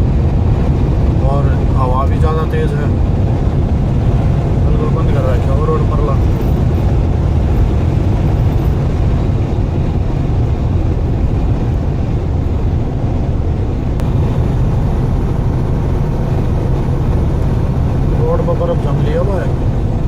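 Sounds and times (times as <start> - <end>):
truck driving on highway: 0.0 - 20.0.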